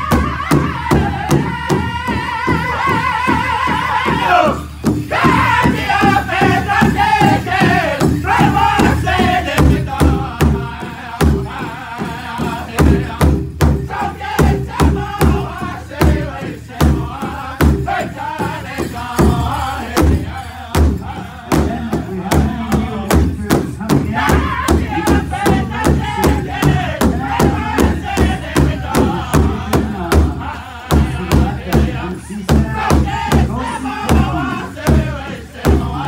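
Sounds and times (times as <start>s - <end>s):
large drum beating: 0.0s - 36.0s
men singing high-pitched: 0.0s - 36.0s.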